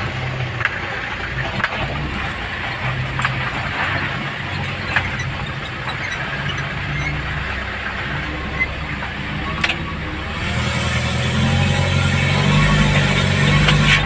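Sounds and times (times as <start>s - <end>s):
vehicle engine at low revs: 0.0s - 14.0s.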